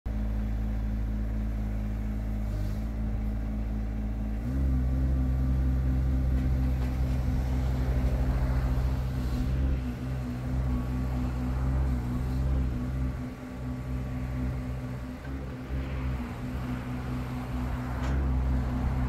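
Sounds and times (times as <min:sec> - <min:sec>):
mini excavator diesel engine: 0:00.1 - 0:19.0.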